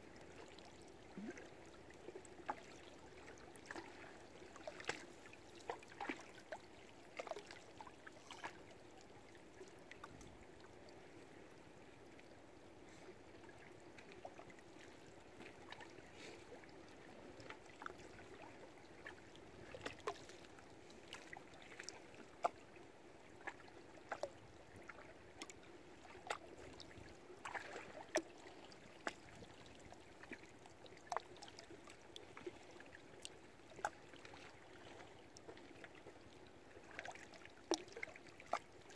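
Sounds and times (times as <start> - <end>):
water lapping against boats: 0.0 - 38.9.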